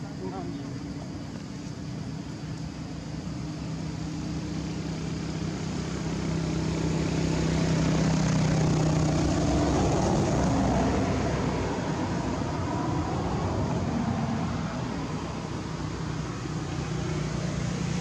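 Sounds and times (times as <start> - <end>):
engine passing: 3.2 - 18.0.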